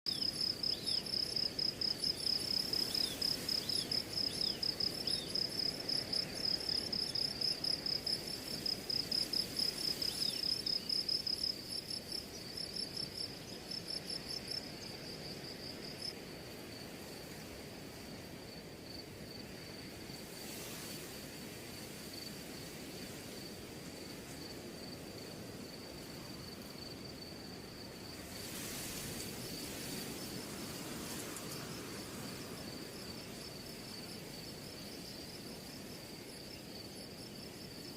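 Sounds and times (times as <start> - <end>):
insects chirping trill: 0.1 - 37.9
low background hiss: 0.1 - 37.9.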